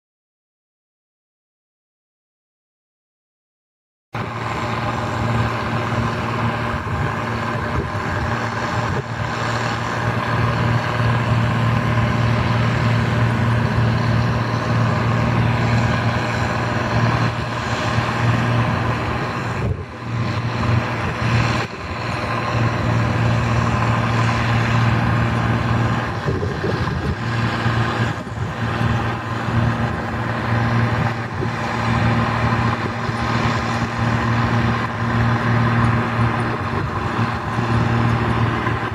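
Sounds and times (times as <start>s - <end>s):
combine harvester engine running: 4.2s - 38.9s.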